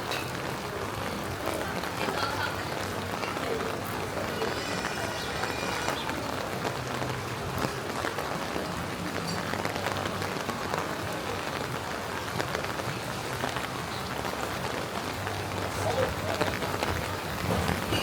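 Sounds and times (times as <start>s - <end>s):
rain on pavement: 0.0s - 18.0s.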